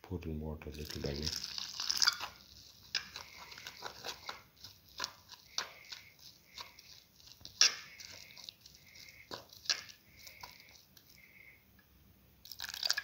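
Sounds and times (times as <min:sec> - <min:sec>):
spoon stirring batter in bowl: 0:00.6 - 0:13.0.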